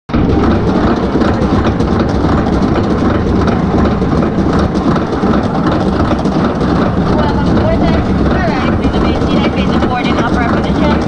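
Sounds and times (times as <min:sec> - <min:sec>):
rattling and clacking: 0:00.1 - 0:11.0
roller coaster wheels rumbling on track: 0:00.1 - 0:11.0.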